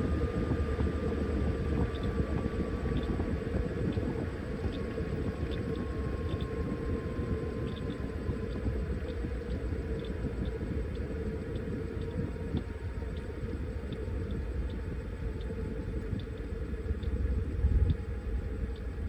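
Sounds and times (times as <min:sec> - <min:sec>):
light irregular ticks: 0:00.2 - 0:19.0.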